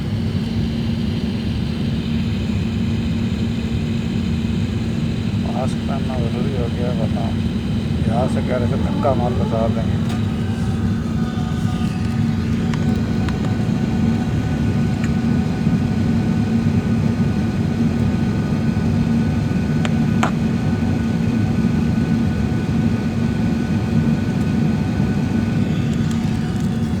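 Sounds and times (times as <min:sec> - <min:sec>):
jet airliner cabin hum: 0:00.0 - 0:27.0.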